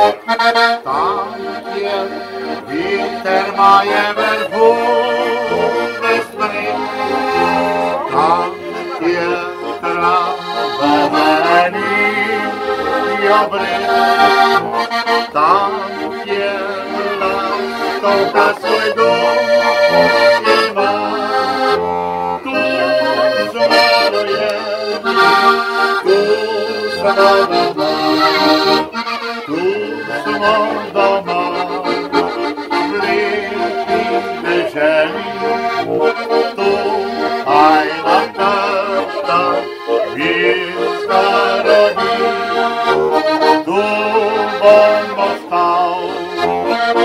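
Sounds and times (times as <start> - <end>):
button accordion folk tune: 0.0 - 47.0.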